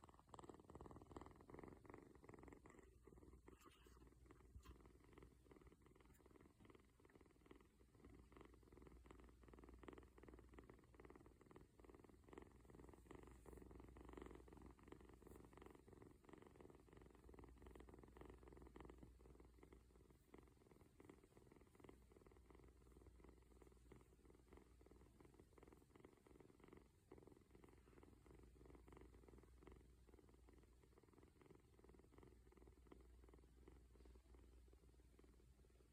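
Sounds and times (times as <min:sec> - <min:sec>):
kitten purring: 0:00.0 - 0:35.9.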